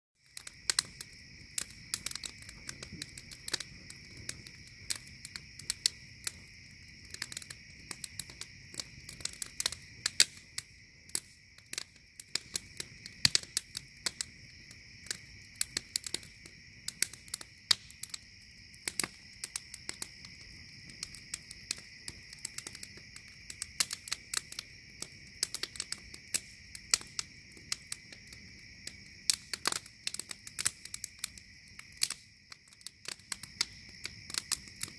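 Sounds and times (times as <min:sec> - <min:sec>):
night insects trilling: 0:00.2 - 0:34.9
wood fire crackling and popping: 0:00.2 - 0:34.9.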